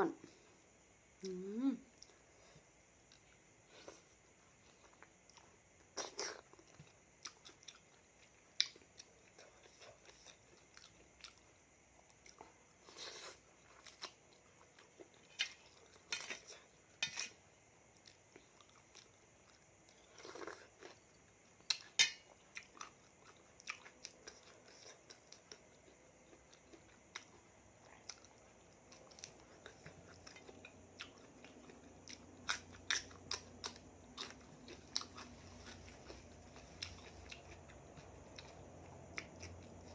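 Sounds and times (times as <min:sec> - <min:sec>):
person chewing food: 0:01.9 - 0:39.9.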